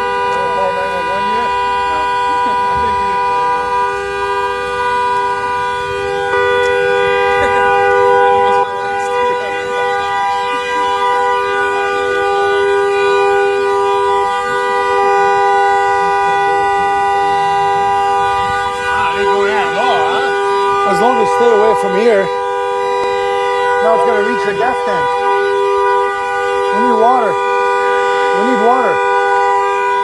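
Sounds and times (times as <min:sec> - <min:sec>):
two-note vehicle horn: 0:00.0 - 0:30.0.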